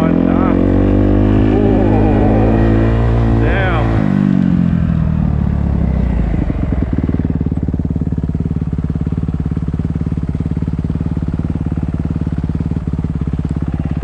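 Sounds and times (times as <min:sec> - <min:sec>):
vehicle engine revving and idling: 0:00.0 - 0:14.0.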